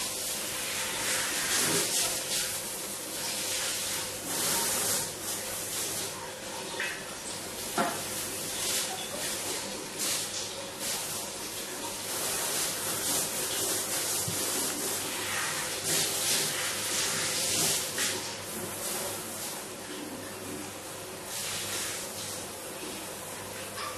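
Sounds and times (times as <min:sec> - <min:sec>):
shower spray into metal bathtub: 0:00.0 - 0:19.8, 0:21.3 - 0:22.6.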